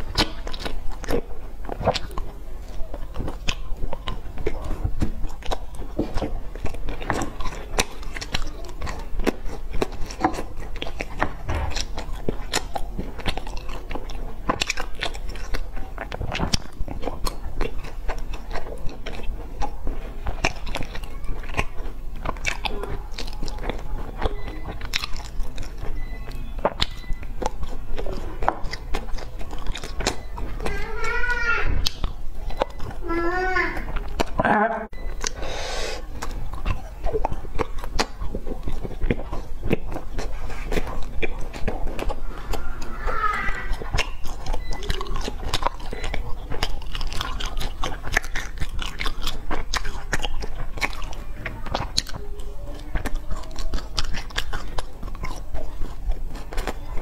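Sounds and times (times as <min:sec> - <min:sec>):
crunchy pastry chewing: 0:00.0 - 0:57.0
mouth clicks: 0:00.0 - 0:57.0.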